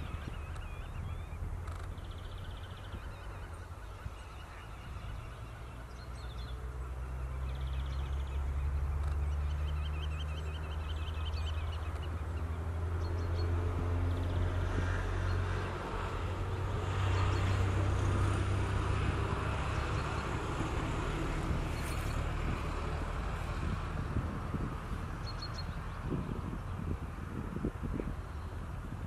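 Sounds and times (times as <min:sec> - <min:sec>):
wetland birds chirping and trilling: 0:00.0 - 0:29.0.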